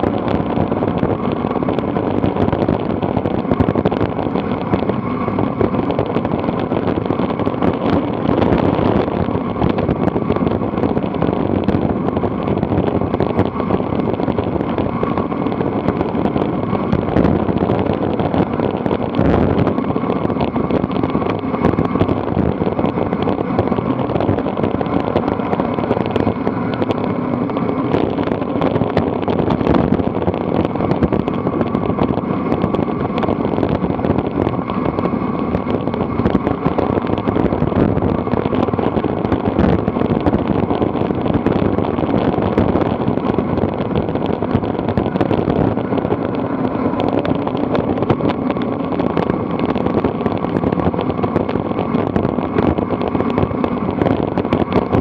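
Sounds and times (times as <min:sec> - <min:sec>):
bicycle ticks and rattles: 0:00.0 - 0:55.0
road noise: 0:00.0 - 0:55.0
wind rush: 0:00.0 - 0:55.0.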